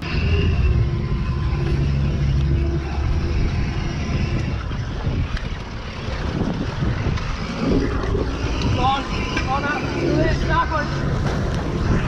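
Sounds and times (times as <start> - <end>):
outboard motor humming: 0.0 - 12.0
wind buffeting microphone: 0.0 - 12.0.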